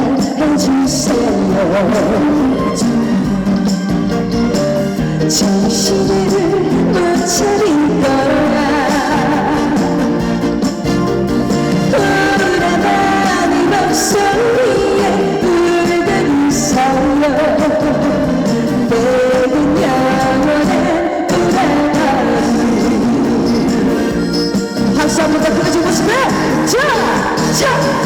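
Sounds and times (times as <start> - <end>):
trot song backing track: 0.0 - 28.0
woman singing: 0.0 - 28.0.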